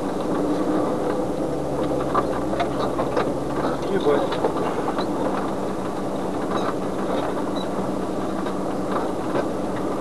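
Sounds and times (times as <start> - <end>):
tyre noise on dirt road: 0.0 - 10.0
vehicle engine running: 0.0 - 10.0.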